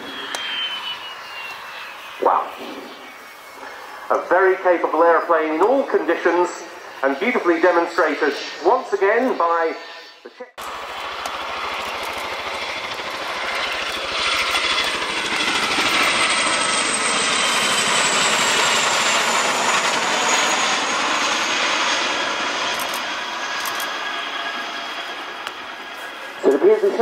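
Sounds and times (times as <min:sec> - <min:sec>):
aircraft turbine engines whining: 0:00.0 - 0:27.0.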